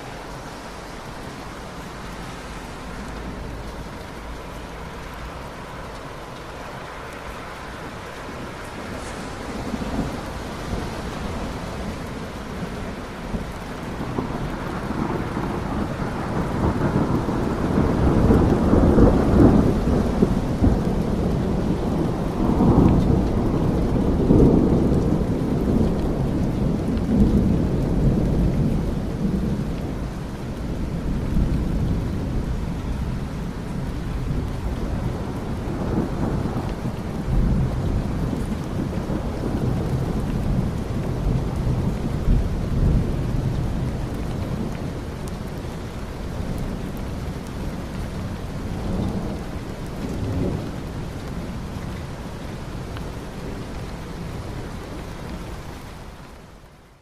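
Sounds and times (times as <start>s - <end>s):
steady rain: 0.0s - 57.0s
rolling thunder: 7.8s - 55.1s.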